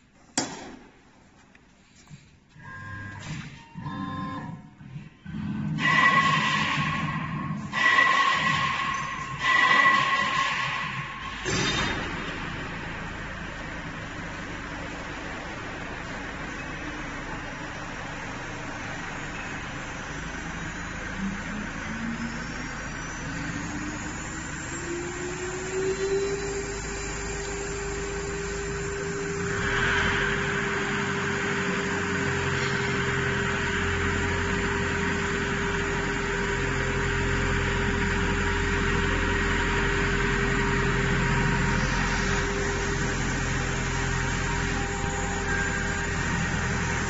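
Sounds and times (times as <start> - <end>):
spindle whine: 2.0 - 47.0.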